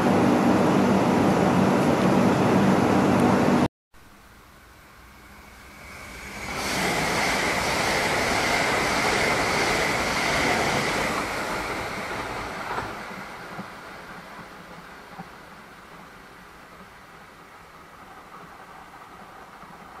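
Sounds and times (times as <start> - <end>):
train passing at speed: 0.0 - 3.7, 4.6 - 20.0
high train whine: 0.0 - 20.0.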